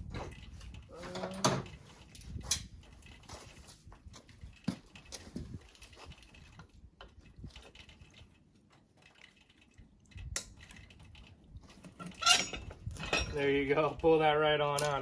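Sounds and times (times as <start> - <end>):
small metal parts clicking: 0.0 - 13.6, 14.7 - 15.0.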